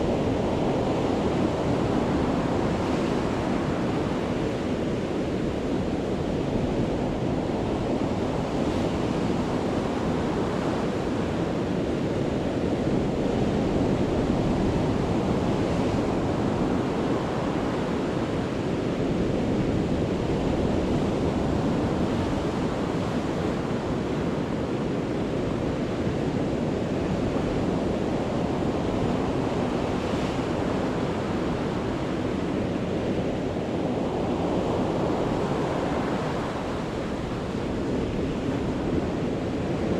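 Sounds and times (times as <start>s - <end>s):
sea waves breaking on a beach: 0.0s - 39.9s
wind on microphone: 0.0s - 39.9s.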